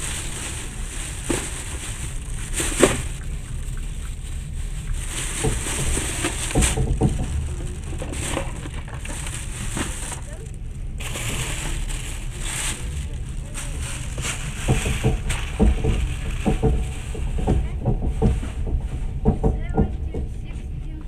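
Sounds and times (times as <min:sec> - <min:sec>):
knocks and rattles: 0:00.0 - 0:20.7
train running rumble: 0:00.0 - 0:21.0.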